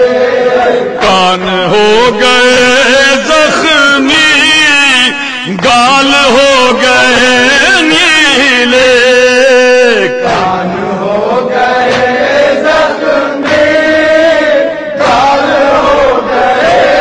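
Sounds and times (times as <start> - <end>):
voices chanting a lament: 0.0 - 17.0.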